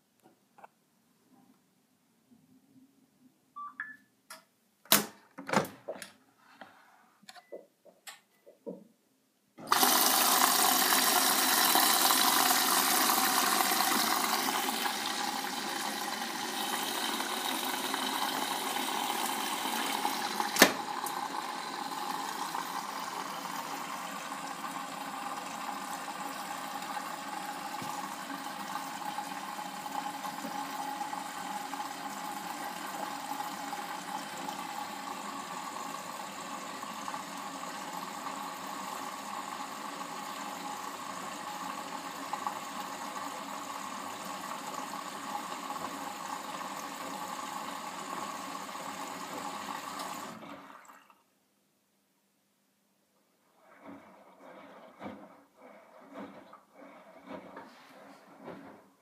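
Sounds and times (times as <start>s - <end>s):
water rushing into washing machine: 9.6s - 51.3s, 53.4s - 59.0s.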